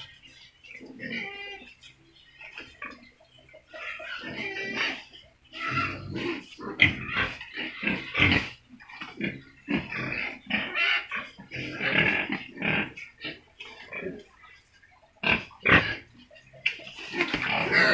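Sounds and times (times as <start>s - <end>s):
pigs grunting: 0.0s - 17.9s.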